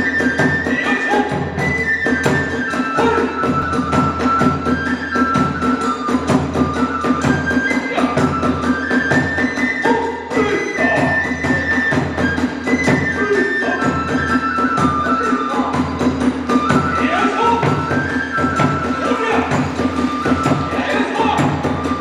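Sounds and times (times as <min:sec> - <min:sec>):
bamboo flute melody: 0:00.0 - 0:22.0
drums and hand cymbals: 0:00.0 - 0:22.0.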